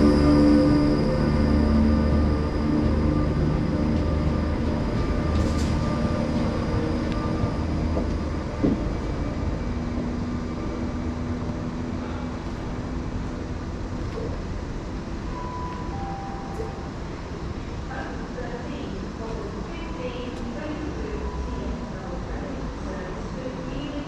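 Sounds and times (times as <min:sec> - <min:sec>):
train rumble with humming motors: 0:00.0 - 0:24.0.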